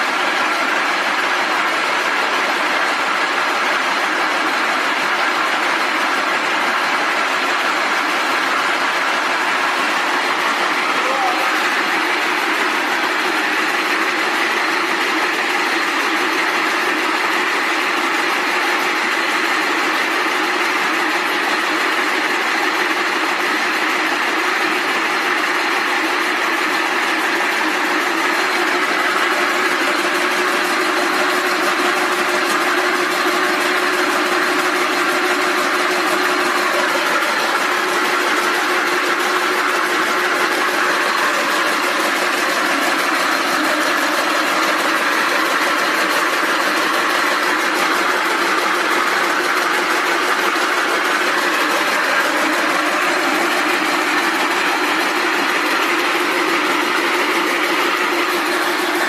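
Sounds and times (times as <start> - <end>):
rope braiding machine running: 0.0 - 59.0.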